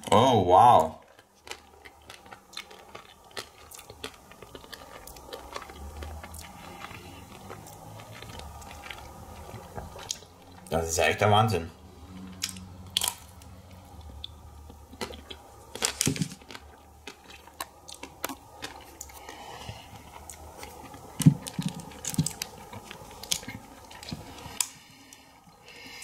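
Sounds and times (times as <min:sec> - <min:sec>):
chewing crunchy ice cream shell: 0:00.8 - 0:10.7, 0:11.9 - 0:25.5.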